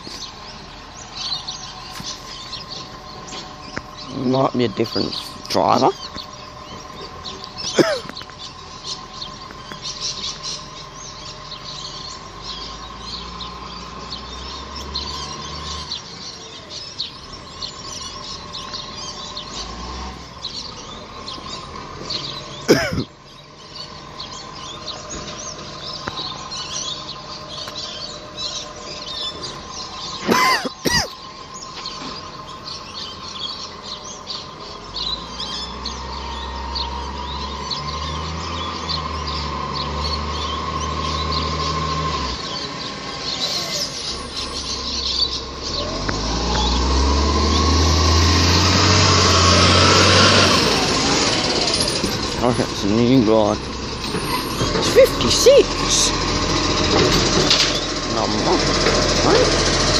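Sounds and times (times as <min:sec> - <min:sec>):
birds chirping and calling: 0:00.0 - 0:59.9
downward sweeping bird calls: 0:00.0 - 0:59.9.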